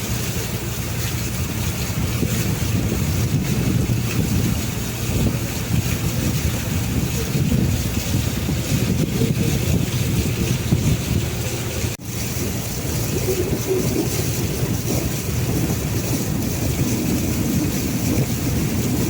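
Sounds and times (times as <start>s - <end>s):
boat engine humming: 0.0s - 19.0s
water noise: 0.0s - 19.0s
wind buffeting microphone: 0.0s - 19.0s.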